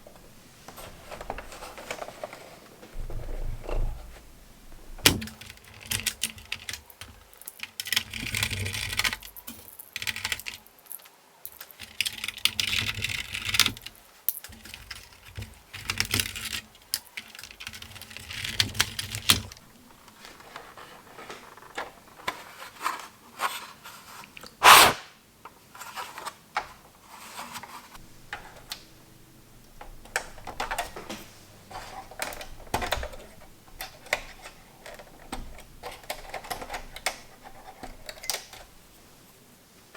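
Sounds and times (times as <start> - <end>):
plastic parts clicking and rattling: 0.0 - 24.8, 29.6 - 38.8.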